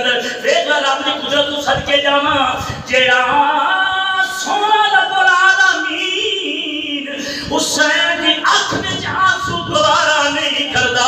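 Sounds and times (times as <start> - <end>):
man chanting through loudspeaker: 0.0 - 11.0.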